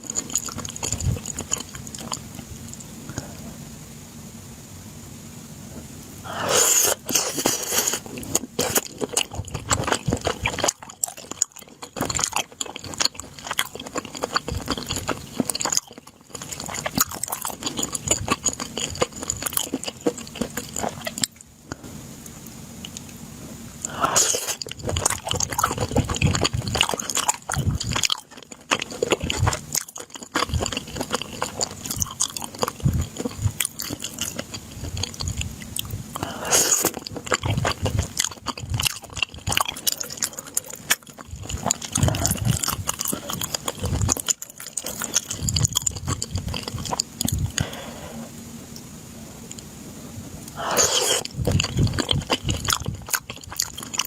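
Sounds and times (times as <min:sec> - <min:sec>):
person chewing crunchy food: 0:00.0 - 0:03.5, 0:06.3 - 0:22.0, 0:23.8 - 0:48.8, 0:50.4 - 0:54.0.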